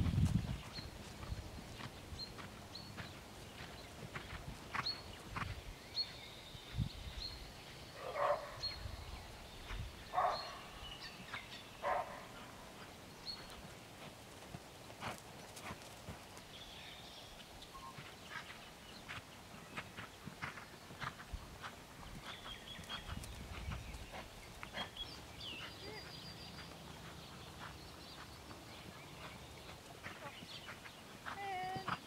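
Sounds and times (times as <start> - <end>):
distant horse hoofbeats on grass: 0.0 - 6.9, 11.2 - 32.0.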